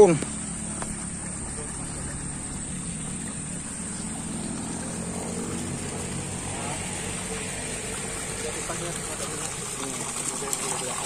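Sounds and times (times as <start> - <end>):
small engine running: 0.0 - 11.0
water splashing from a pipe: 0.0 - 11.0.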